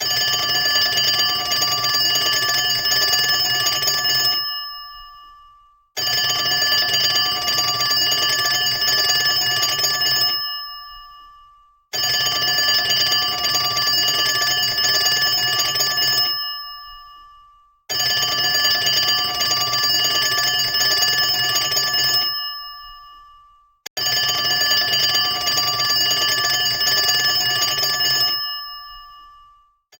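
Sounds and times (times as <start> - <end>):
telephone bell ringing: 0.0 - 30.0.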